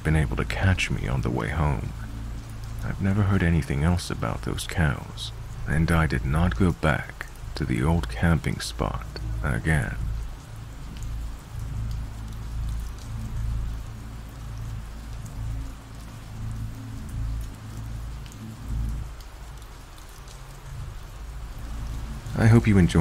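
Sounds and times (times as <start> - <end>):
low uneven rumble: 0.0 - 23.0
steady rain falling: 0.0 - 23.0.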